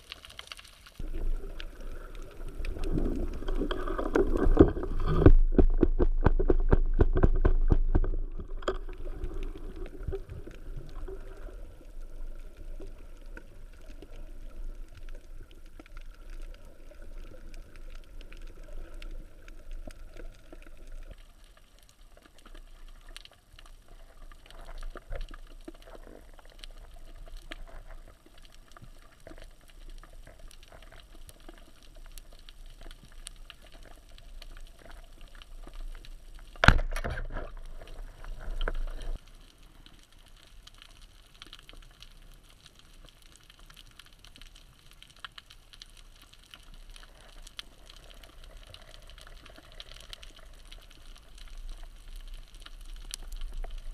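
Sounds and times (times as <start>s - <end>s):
faint crackling clicks: 0.0s - 53.9s
underwater low rumble and hiss: 0.0s - 53.9s.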